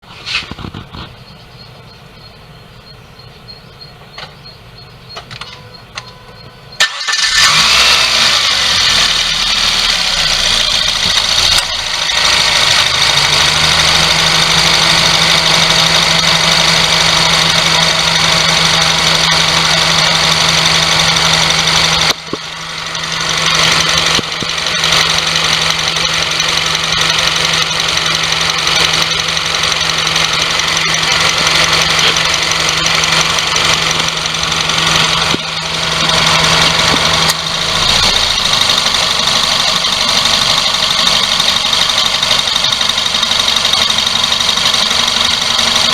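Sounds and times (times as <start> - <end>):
abnormal engine bay noise: 0.0 - 45.9
car engine starting and running: 0.0 - 45.9.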